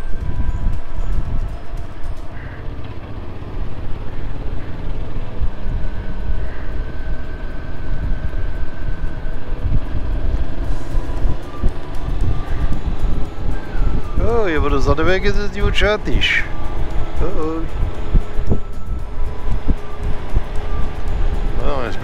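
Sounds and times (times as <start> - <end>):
motorcycle engine rumble: 0.0 - 22.0
wind rush: 4.3 - 22.0.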